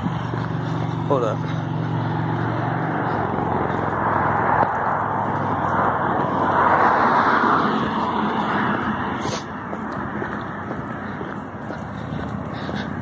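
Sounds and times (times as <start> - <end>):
jet airliner passing overhead: 1.4 - 13.0.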